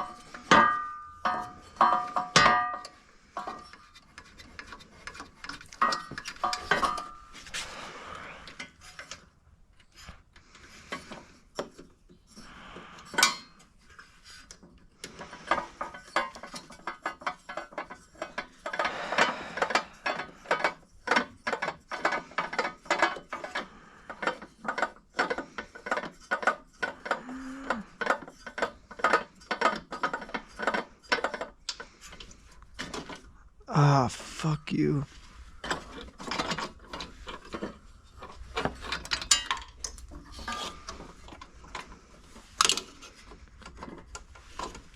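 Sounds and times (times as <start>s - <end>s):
metal clicks and clanks: 0.0s - 7.6s, 13.0s - 33.4s, 35.6s - 44.9s.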